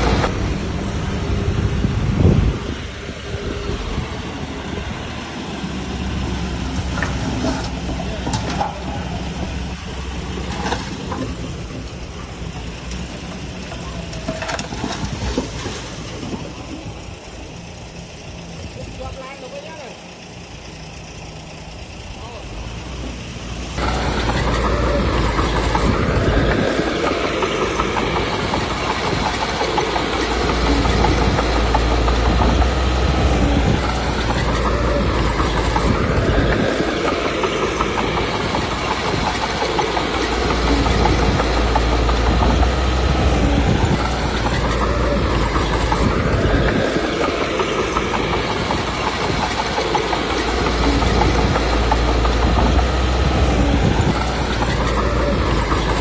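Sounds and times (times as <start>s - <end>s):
bulldozer diesel engine under load: 0.0s - 56.0s
steel tracks clattering: 0.0s - 56.0s.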